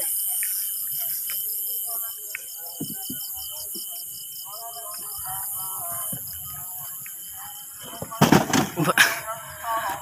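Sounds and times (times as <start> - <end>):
crickets chirping: 0.0 - 10.0
faint voices: 0.0 - 10.0
high insect drone: 0.0 - 10.0.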